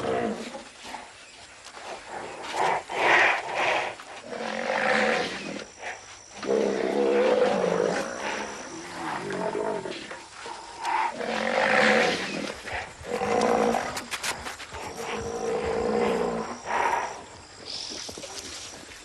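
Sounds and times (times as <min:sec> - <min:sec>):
lions growling: 0:02.0 - 0:17.3.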